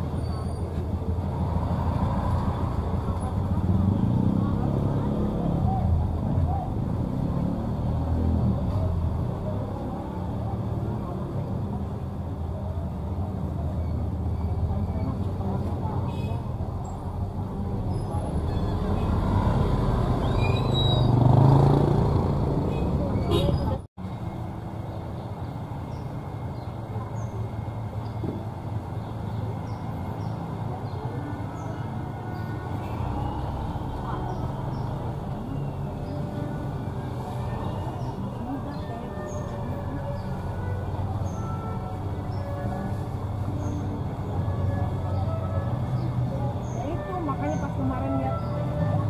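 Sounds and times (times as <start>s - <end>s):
people talking outside: 0.0s - 49.0s
vehicle rumbling: 0.0s - 49.0s.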